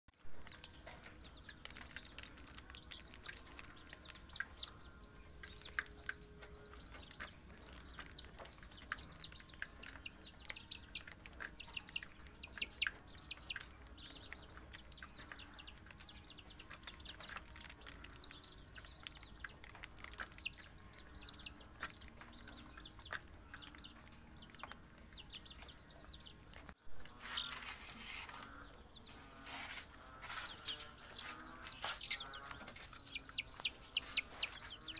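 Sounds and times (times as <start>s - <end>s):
chicks peeping: 0.2s - 34.9s.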